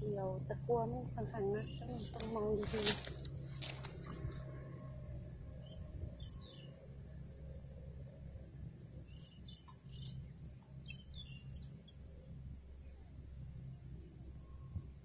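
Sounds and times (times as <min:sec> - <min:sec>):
low background rumble: 0:00.0 - 0:15.0
faint bird chirps: 0:00.8 - 0:06.8, 0:09.0 - 0:15.0.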